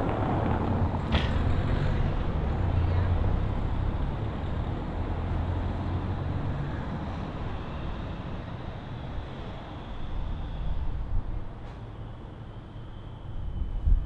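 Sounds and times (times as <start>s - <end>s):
steady outdoor hiss: 0.0s - 14.0s
vehicle engine low rumble: 0.0s - 14.0s.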